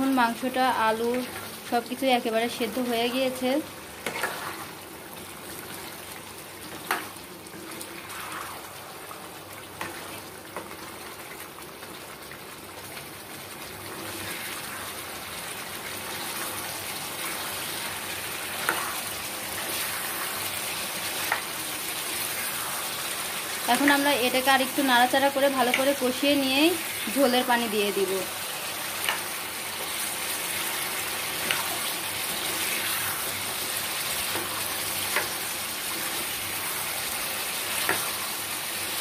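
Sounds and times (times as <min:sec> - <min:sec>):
curry bubbling and sizzling: 0:00.0 - 0:39.0.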